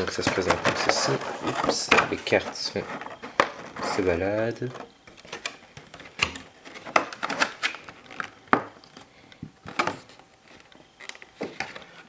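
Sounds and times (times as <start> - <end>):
cards and cardboard box handled: 0.0 - 12.0.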